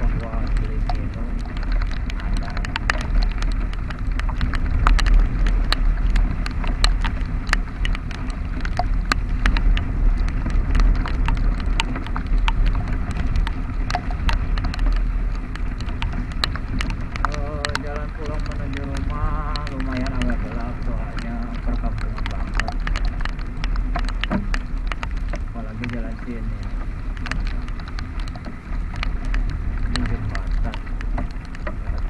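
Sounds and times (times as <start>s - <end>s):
rain drops tapping on casing: 0.0s - 32.0s
wind rumble: 0.0s - 32.0s.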